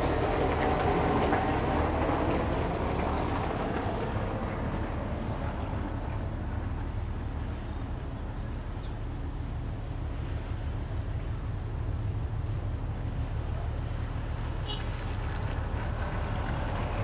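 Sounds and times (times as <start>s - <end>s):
ship engine rumble: 0.0s - 17.0s.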